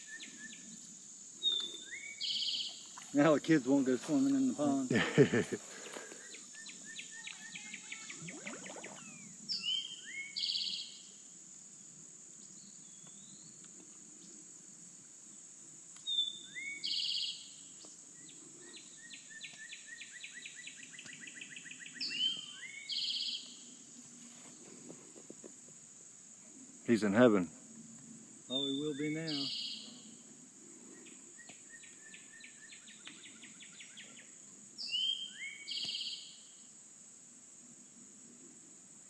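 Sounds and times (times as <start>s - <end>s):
songbird singing: 0.0s - 11.4s, 12.3s - 25.7s, 28.4s - 36.8s
high insect drone: 0.0s - 39.0s.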